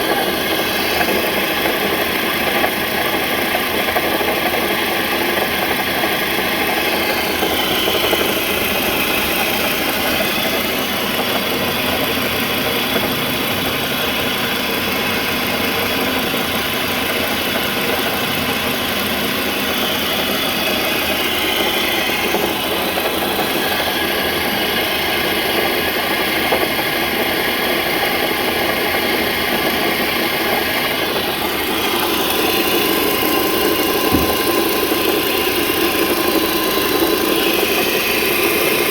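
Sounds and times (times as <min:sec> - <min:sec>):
car engine idling: 0:00.0 - 0:38.9
unusual engine noise: 0:00.0 - 0:38.9.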